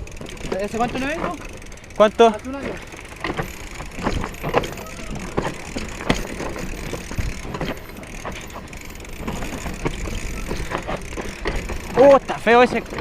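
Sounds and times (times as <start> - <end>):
bike frame knocks and rattles: 0.0 - 13.0
wind and tyre noise: 0.0 - 13.0.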